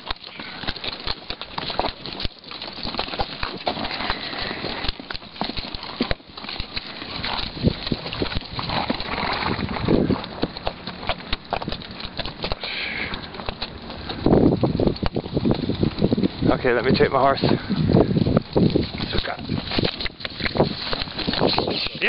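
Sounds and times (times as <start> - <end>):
horse hooves on stony ground: 0.0 - 22.0.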